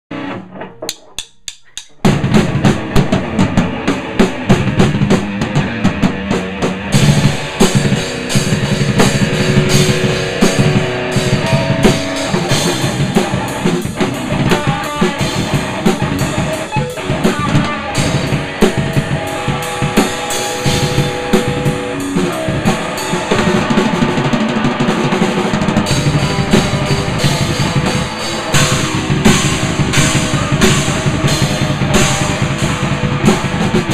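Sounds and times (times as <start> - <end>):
drum kit playing: 0.1 - 33.9.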